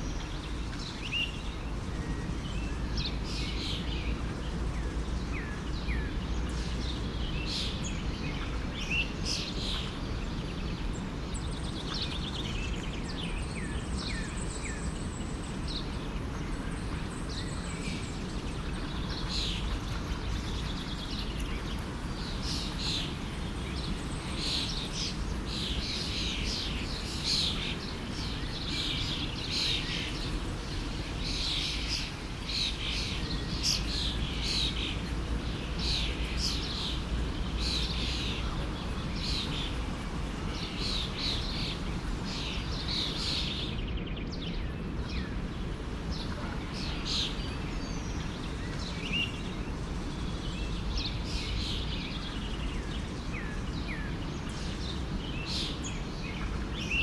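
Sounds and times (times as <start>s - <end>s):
small birds chirping: 0.0s - 57.0s
forest stream rushing: 0.1s - 43.8s, 44.8s - 57.0s.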